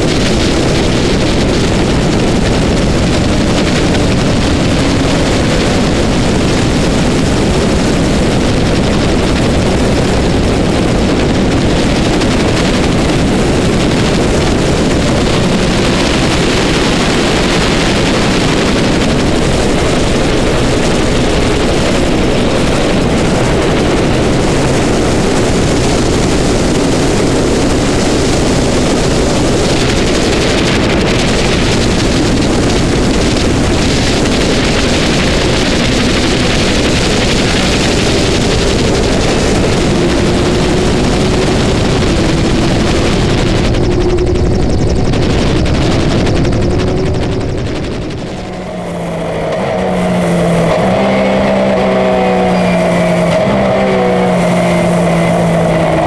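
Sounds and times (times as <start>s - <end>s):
racing car engine revving: 0.0s - 56.0s
rushing vehicle noise: 0.0s - 56.0s.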